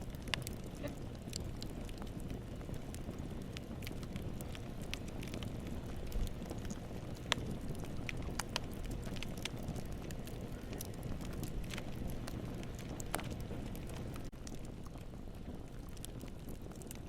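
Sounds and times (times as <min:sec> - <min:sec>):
campfire flame rushing: 0:00.0 - 0:17.0
wood crackling and popping: 0:00.0 - 0:17.0.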